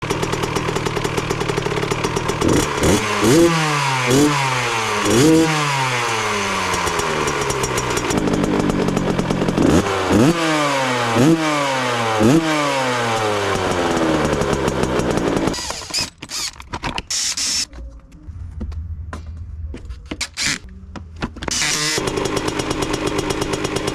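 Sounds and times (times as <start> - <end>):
two-stroke engine idling and revving: 0.0 - 17.7, 20.2 - 20.7, 21.4 - 23.9.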